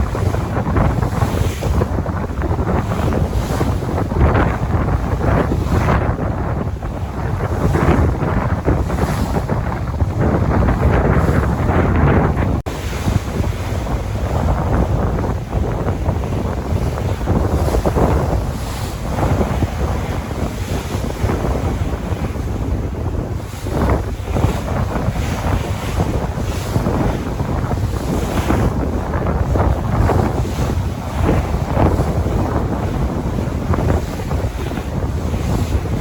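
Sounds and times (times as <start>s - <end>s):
sea waves washing: 0.0s - 36.0s
wind buffeting microphone: 0.0s - 36.0s.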